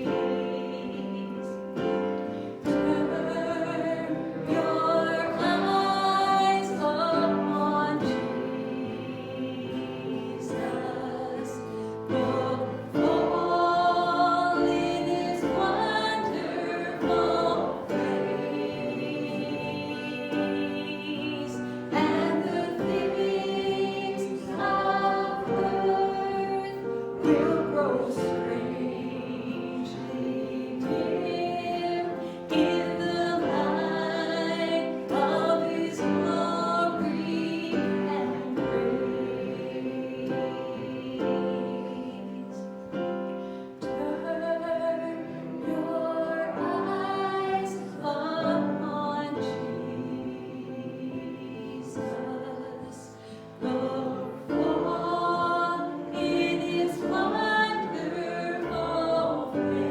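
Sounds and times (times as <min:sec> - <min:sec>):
group singing a slow hymn: 0:00.0 - 0:59.9.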